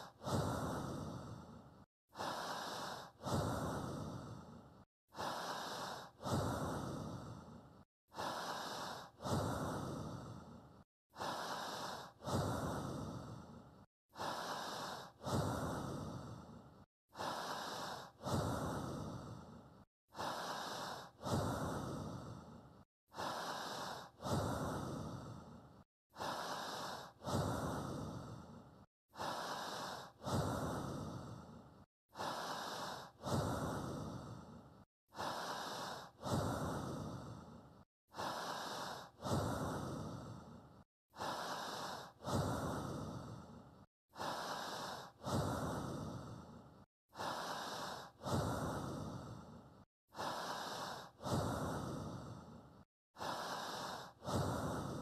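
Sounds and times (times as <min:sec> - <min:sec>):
person breathing: 0:00.0 - 0:55.0.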